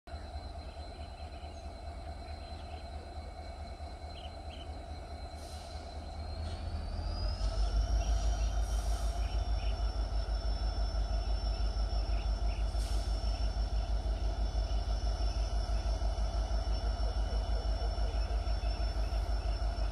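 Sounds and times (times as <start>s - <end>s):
distant locomotive rumble: 0.1s - 19.9s.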